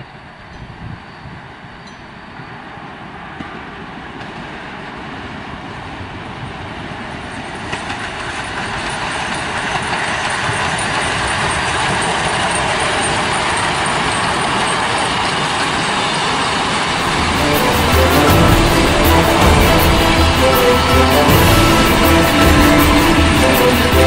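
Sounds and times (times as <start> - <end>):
steam locomotive passing: 2.7 - 24.0.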